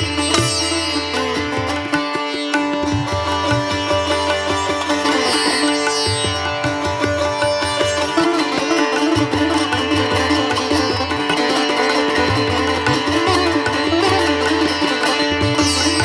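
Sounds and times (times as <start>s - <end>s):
plucked-string melody: 0.0s - 16.0s.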